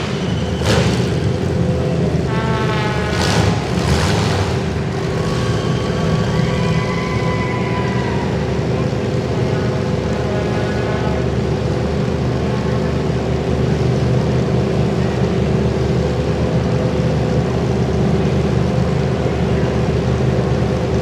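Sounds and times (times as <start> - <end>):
car engines droning: 0.0 - 21.0.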